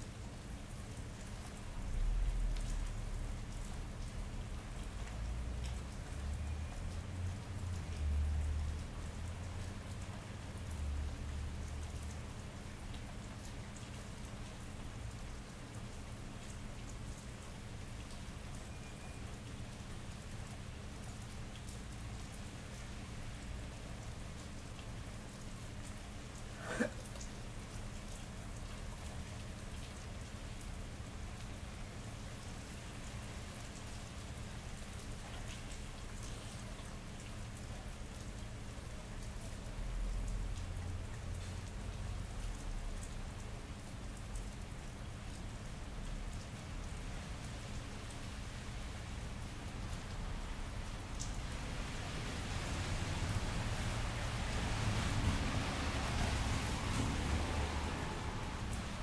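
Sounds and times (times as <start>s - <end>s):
rain on pavement: 0.0s - 59.0s.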